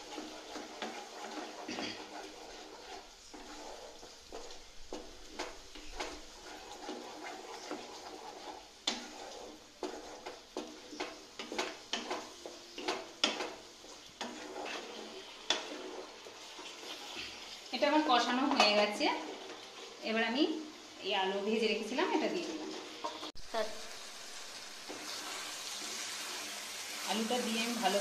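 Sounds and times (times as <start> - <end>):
wooden spatula scraping pan: 0.0 - 20.3, 21.2 - 23.4, 24.8 - 28.0.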